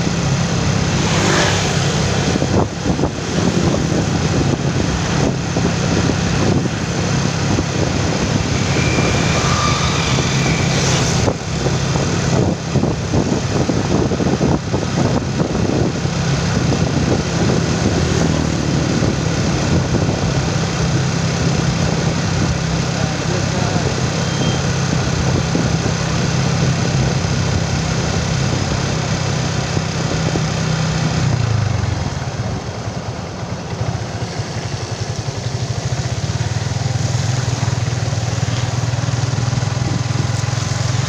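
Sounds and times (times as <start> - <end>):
motorcycle engine running: 0.0 - 41.0
wind and road noise: 0.0 - 41.0.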